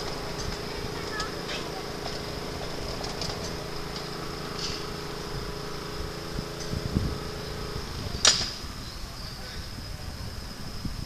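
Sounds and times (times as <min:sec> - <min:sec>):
small motor humming: 0:00.0 - 0:11.0.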